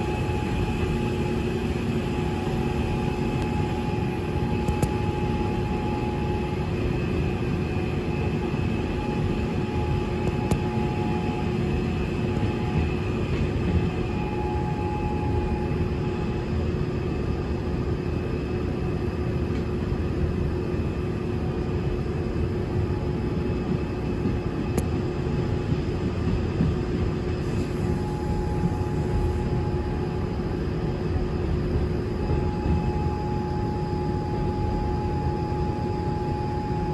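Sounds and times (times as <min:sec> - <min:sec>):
constant hum: 0:00.0 - 0:36.9
high whine: 0:00.0 - 0:36.9
train wheel and rail noise: 0:00.0 - 0:36.9.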